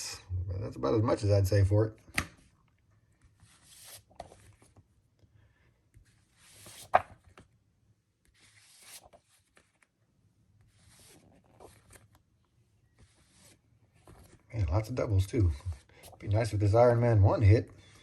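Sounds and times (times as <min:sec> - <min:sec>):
comic books rustling: 0:02.4 - 0:07.6, 0:08.2 - 0:18.0.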